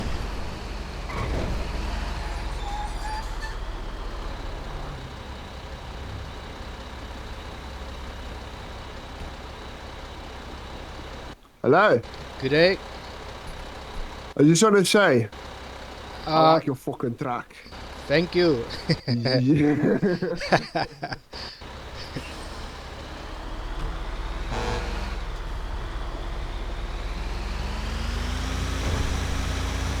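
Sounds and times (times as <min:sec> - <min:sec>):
truck engine rumbling: 0:00.0 - 0:30.0.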